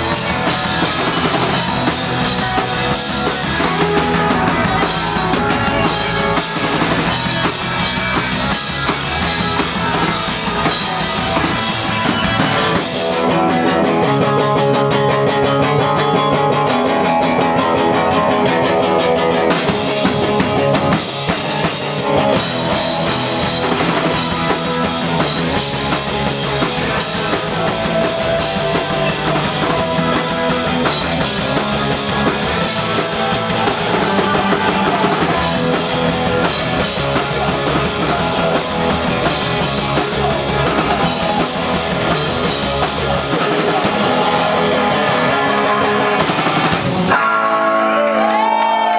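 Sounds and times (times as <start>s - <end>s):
sustained guitar chords: 0.0s - 48.4s
punk rock band playing: 0.0s - 48.9s.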